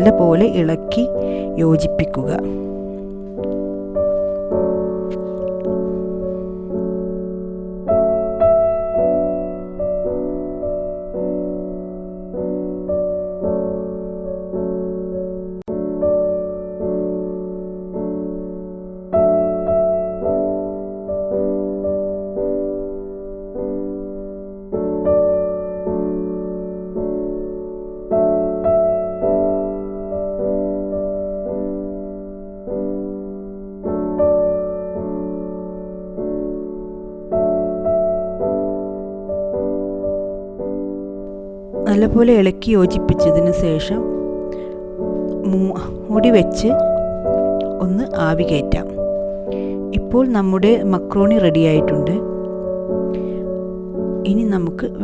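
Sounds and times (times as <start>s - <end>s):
soft piano slow chords: 0.0s - 55.0s.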